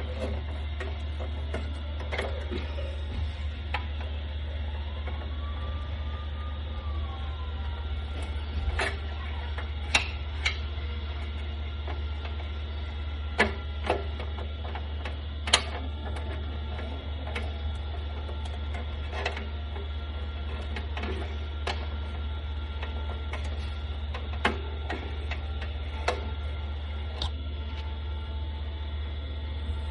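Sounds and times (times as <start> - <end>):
low machine hum: 0.0 - 29.9.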